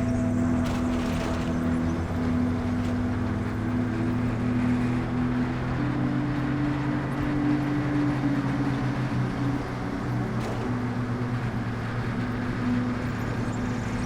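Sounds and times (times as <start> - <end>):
car engine running: 0.0 - 14.0
road and wind noise: 0.0 - 14.0.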